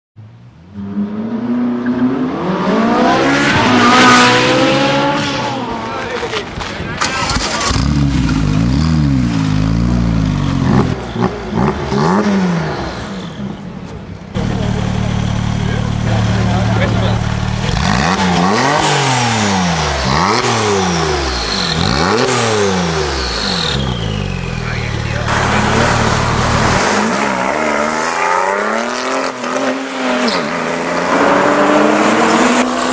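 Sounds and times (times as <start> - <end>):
car engine starting and revving: 0.6 - 13.7, 14.3 - 32.9.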